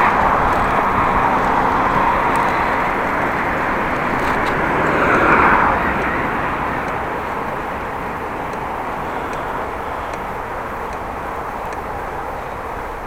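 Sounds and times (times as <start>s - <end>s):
bicycle tyre rumble: 0.0s - 13.0s
faint sharp ticking: 0.0s - 13.0s
wind: 0.0s - 13.0s.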